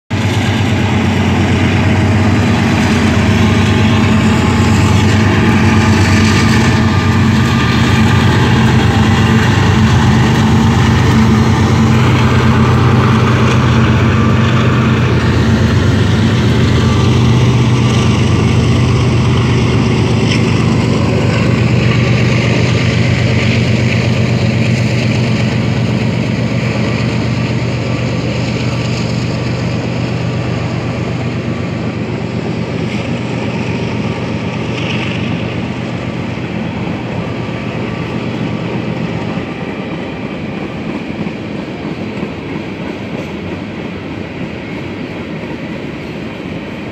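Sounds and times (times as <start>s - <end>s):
locomotive engine drone: 0.1s - 46.9s
train rolling noise: 0.1s - 46.9s.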